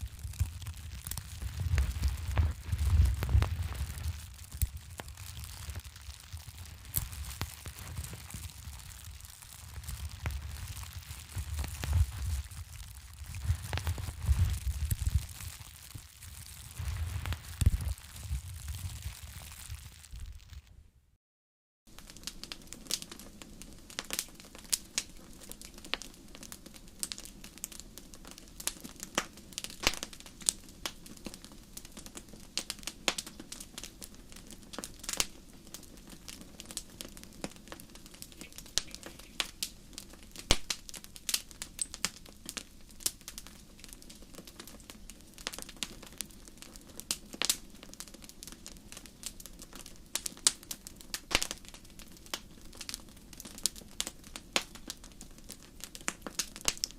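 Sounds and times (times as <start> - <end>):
campfire crackling: 0.0 - 20.7, 21.9 - 56.9
fire snaps and pops: 0.0 - 20.7, 21.9 - 56.9.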